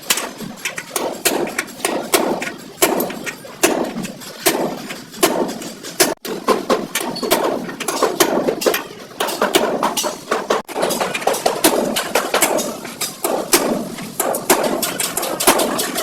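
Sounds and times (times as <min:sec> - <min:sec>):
hammer knocking on sheet metal: 0:00.1 - 0:16.0.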